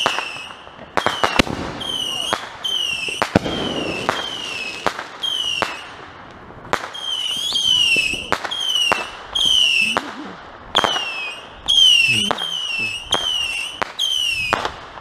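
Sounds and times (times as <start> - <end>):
whistling firework shots: 0.0 - 6.0, 6.7 - 15.0.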